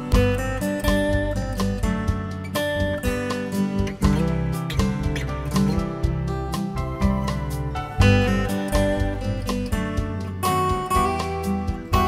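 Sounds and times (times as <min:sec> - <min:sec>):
plucked acoustic guitar music: 0:00.0 - 0:12.0.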